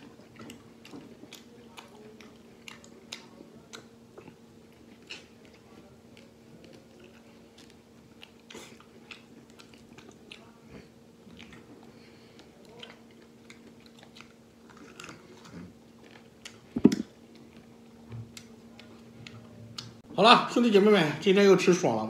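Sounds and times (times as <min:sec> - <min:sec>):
man chewing: 0:00.0 - 0:20.0
faint steady hum: 0:00.0 - 0:22.0.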